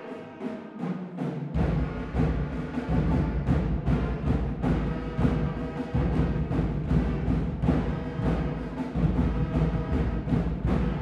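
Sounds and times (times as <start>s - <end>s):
steady drum beat: 0.8s - 11.0s.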